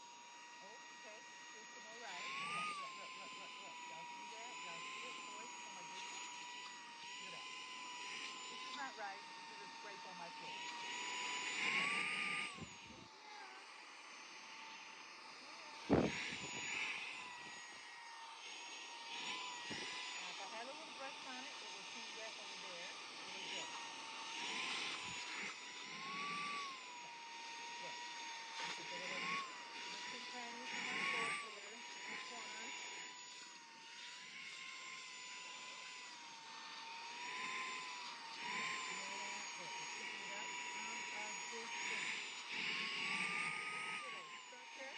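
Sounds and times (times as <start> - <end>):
handheld vacuum whining: 0.0 - 44.9.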